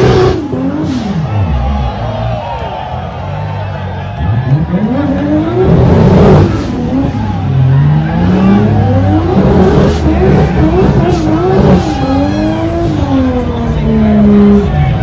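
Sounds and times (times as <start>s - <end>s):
car engine revving: 0.0s - 2.4s, 4.0s - 15.0s.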